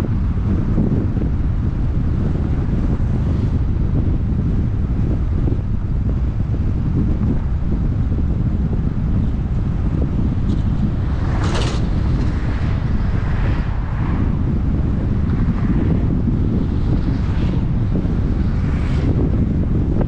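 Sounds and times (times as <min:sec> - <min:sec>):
road noise rumble: 0:00.0 - 0:20.0
vehicles rushing past: 0:00.0 - 0:20.0
wind buffeting microphone: 0:00.0 - 0:20.0.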